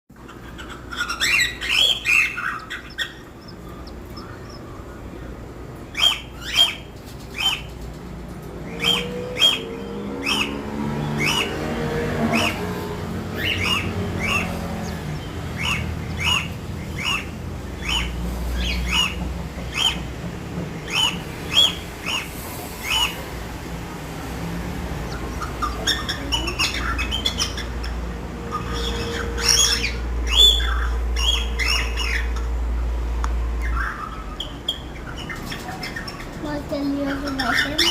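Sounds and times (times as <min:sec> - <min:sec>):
bird chick peeping: 0:00.1 - 0:20.2, 0:24.8 - 0:32.9, 0:33.6 - 0:37.9.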